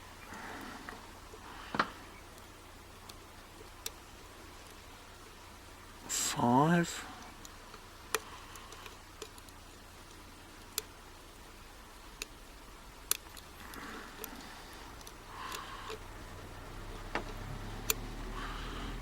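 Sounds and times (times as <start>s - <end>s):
lock pick metallic ticks: 0.2s - 5.5s, 7.2s - 16.2s, 17.0s - 18.2s.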